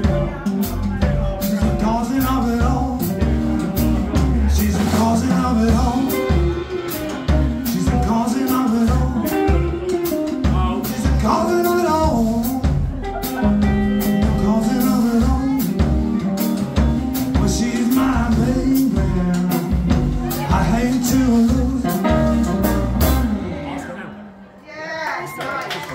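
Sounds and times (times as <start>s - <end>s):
drum kit: 0.0s - 23.8s
double bass: 0.0s - 24.2s
electric guitar lead lines: 0.0s - 24.4s
blues band playing: 0.0s - 24.6s.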